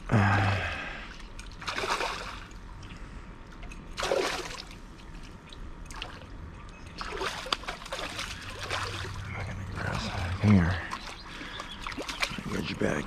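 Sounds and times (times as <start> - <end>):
fish thrashing and splashing: 1.3 - 2.7, 3.6 - 12.7.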